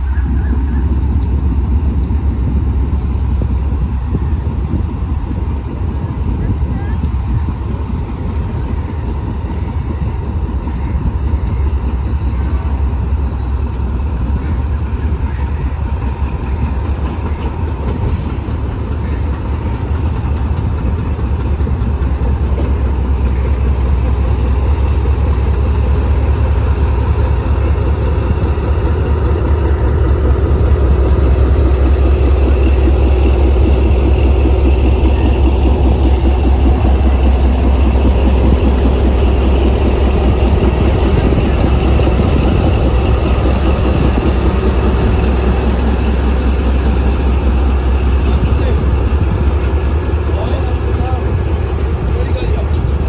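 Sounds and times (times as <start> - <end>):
diesel locomotive engine rumbling: 0.0 - 53.0.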